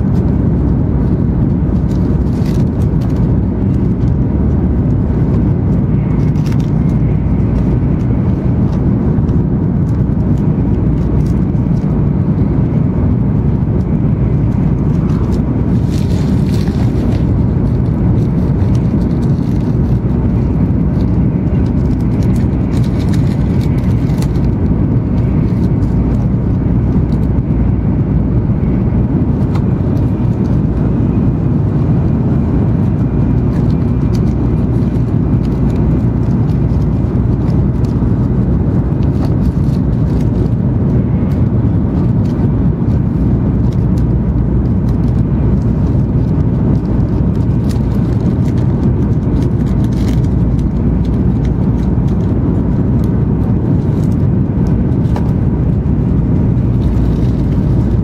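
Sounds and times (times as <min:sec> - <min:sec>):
train rumble inside cabin: 0:00.0 - 0:58.0.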